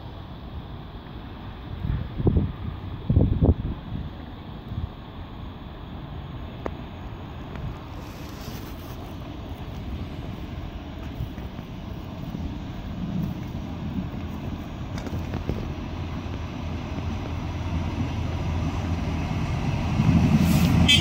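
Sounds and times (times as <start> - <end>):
rail vehicle rumbling: 0.0 - 21.0.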